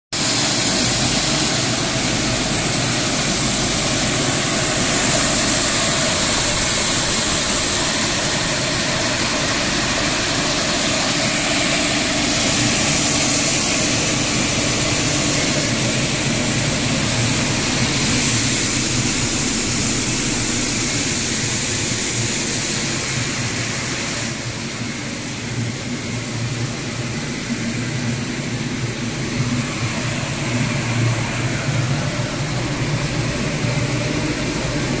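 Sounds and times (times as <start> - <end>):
loud rushing hiss of machinery: 0.2 - 35.0
steady low hum: 0.3 - 35.0.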